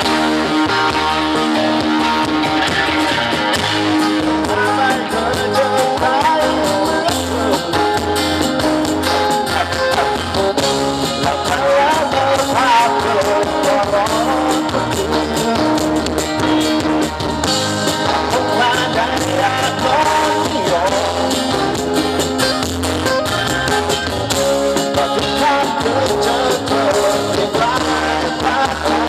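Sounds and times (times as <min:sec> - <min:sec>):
live band music with singing: 0:00.0 - 0:29.0.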